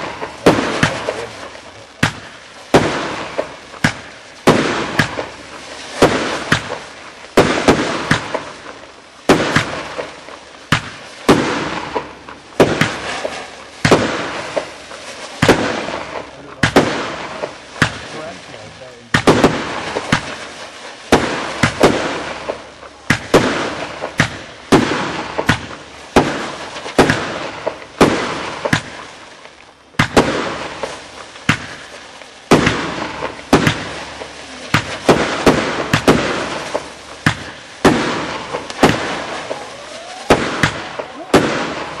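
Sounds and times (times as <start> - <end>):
faint firework pops: 0.0 - 42.0
firework bangs: 0.0 - 42.0.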